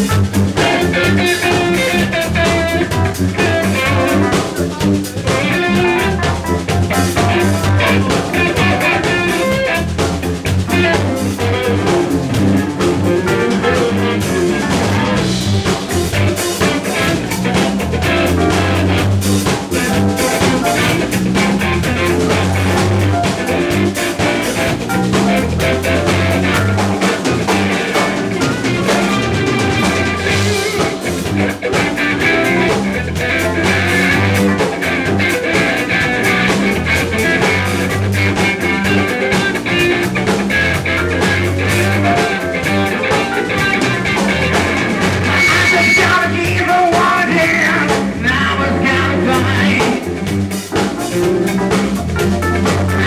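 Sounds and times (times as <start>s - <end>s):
live blues band playing: 0.0s - 53.0s
walking bass line: 0.0s - 53.0s.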